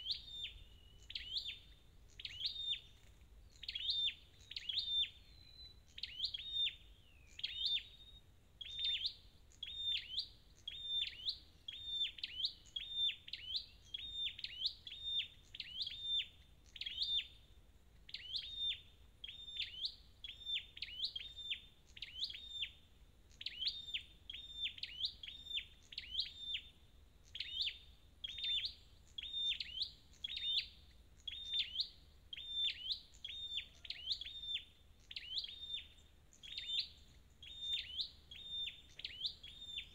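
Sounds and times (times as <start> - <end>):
bird chip calls: 0.0 - 17.3, 18.1 - 39.9.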